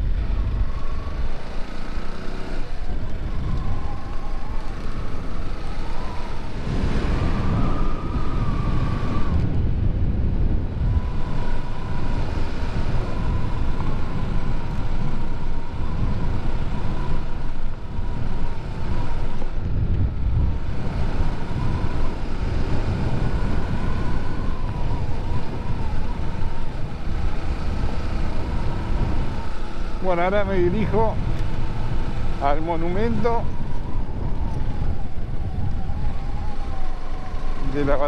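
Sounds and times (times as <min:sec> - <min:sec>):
wind rumble on microphone: 0:00.0 - 0:38.0.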